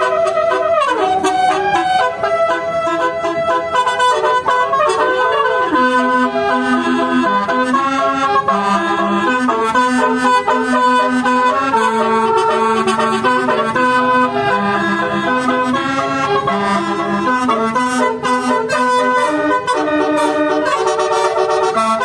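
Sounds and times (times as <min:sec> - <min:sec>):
multi-tone bus horn playing a tune: 0:00.0 - 0:22.0.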